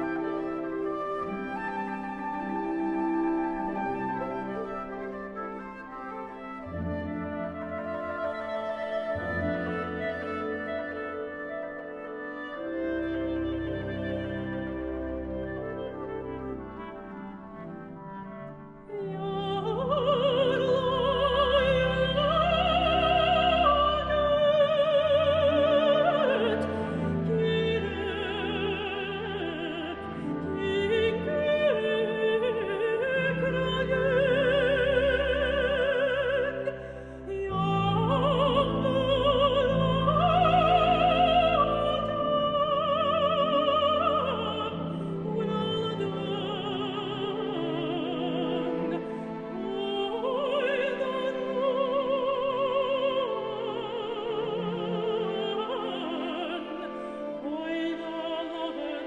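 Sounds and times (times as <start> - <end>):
orchestral accompaniment: 0.0 - 59.0
woman singing operatic style: 0.0 - 59.0.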